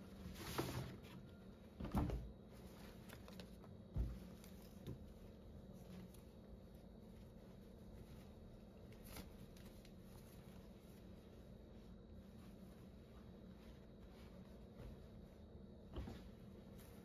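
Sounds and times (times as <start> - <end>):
cloth being handled: 0.0 - 17.0.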